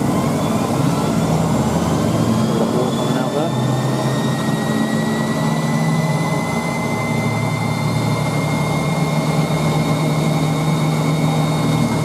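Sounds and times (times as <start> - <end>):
high whine: 0.0 - 12.0
spin dryer humming: 0.0 - 12.0.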